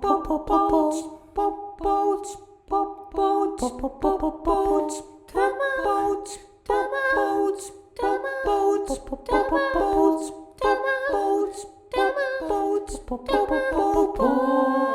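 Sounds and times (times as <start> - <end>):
person singing unaccompanied: 0.0 - 14.9.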